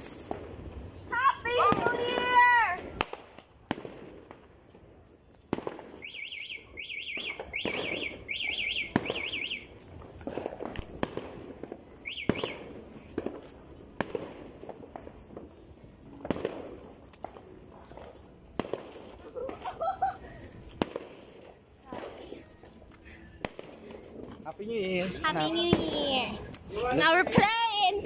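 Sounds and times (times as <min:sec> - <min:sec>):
fireworks and firecrackers banging: 0:00.0 - 0:28.0.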